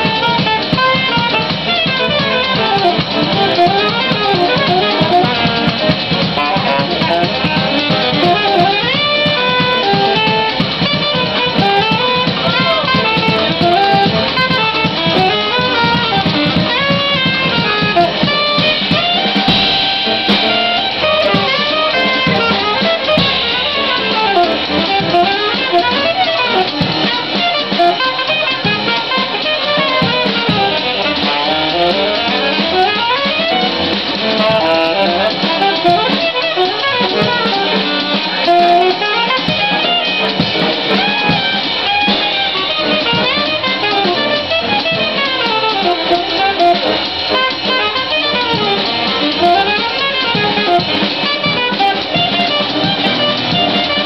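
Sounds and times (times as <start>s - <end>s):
drum kit: 0.0s - 54.0s
saxophone melody: 0.0s - 54.0s
upright bass walking: 0.0s - 54.0s.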